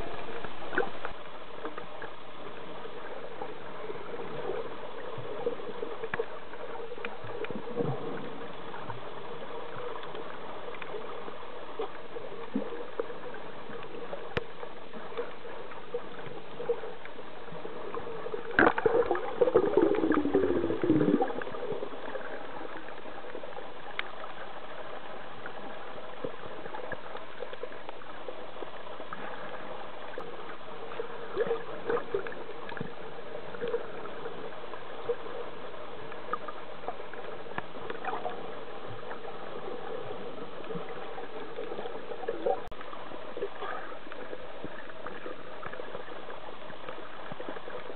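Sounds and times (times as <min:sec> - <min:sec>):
bubbling and gurgling water: 0:00.0 - 0:47.9.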